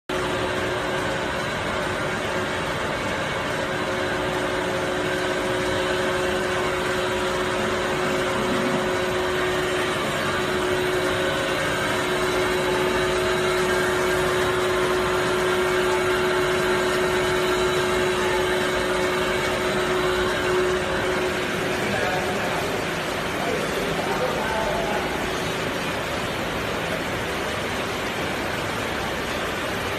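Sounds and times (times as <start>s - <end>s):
machinery humming: 0.1s - 29.9s.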